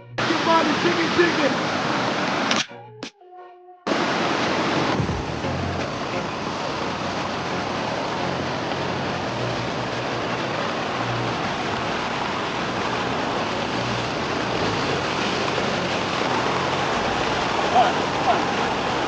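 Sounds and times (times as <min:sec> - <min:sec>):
river water rushing over rocks: 0:00.2 - 0:02.6, 0:03.9 - 0:19.0.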